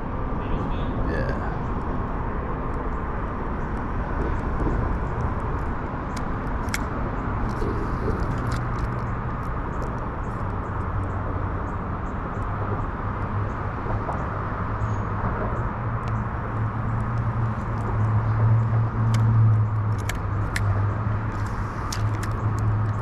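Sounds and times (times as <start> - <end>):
road traffic drone: 0.0 - 23.0.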